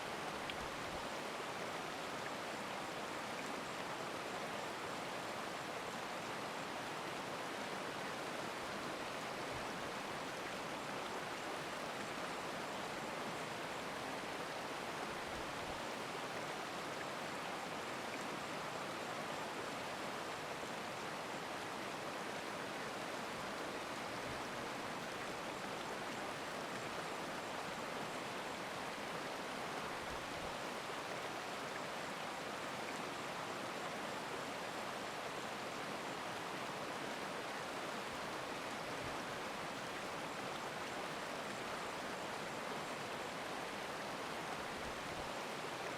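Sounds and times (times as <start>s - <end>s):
stream rushing: 0.0s - 45.9s.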